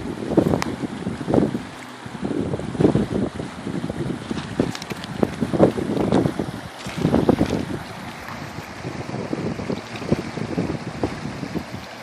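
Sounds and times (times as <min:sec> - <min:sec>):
flood water splashing and rushing: 0:00.0 - 0:12.0
wind buffeting microphone: 0:00.0 - 0:12.0.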